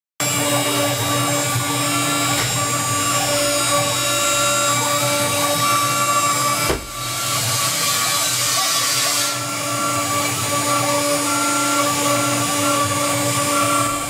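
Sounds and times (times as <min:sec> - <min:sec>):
router spindle whine: 0:00.2 - 0:14.0
stepper motors humming: 0:00.2 - 0:14.0.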